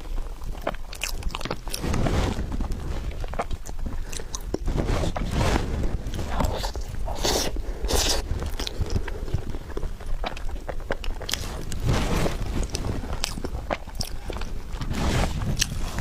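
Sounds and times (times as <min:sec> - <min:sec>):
close chewing with mouth clicks: 0:00.0 - 0:16.0.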